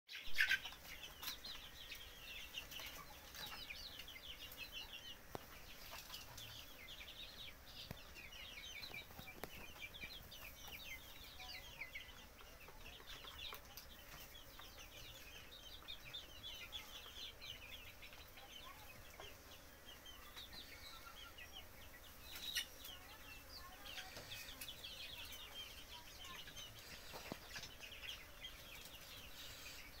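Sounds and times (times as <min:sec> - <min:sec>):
chicks cheeping: 0:00.1 - 0:30.0.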